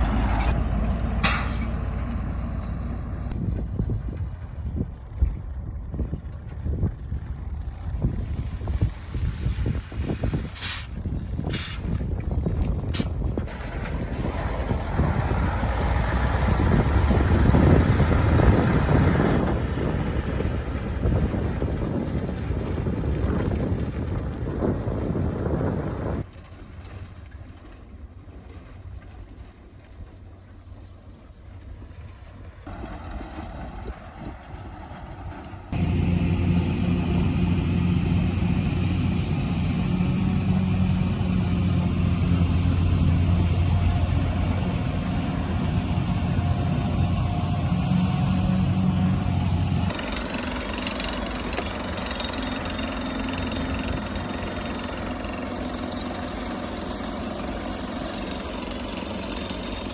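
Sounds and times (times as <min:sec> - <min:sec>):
excavator engine running: 0:00.0 - 0:08.4, 0:12.5 - 0:59.9.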